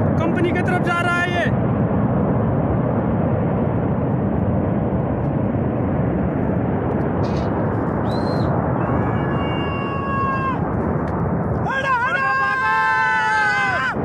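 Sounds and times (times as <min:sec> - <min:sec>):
flash flood rushing: 0:01.4 - 0:14.0.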